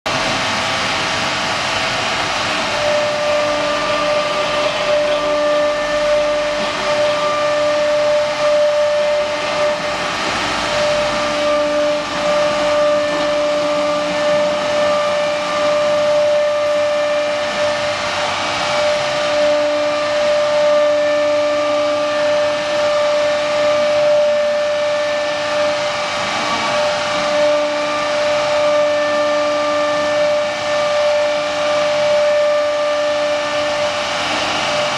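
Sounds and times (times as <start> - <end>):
machining hiss: 0.1 - 34.9
router spindle whine: 0.1 - 34.9.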